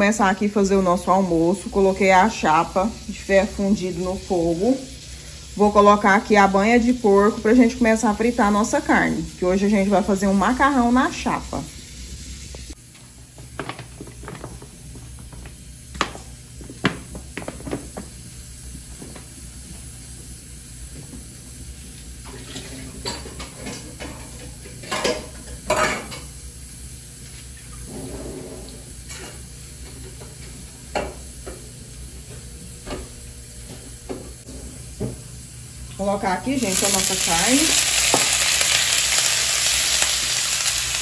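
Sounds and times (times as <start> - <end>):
lard sizzling on griddle: 0.0 - 14.9, 15.6 - 28.0, 34.3 - 41.0.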